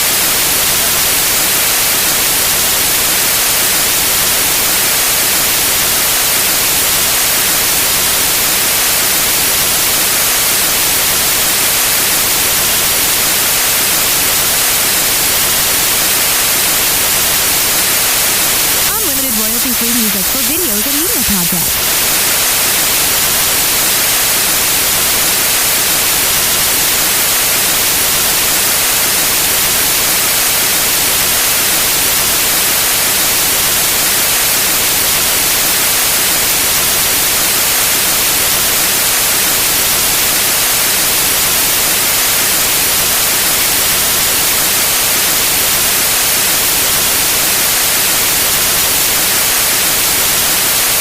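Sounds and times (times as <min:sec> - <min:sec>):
white noise hiss: 0:00.0 - 0:51.0.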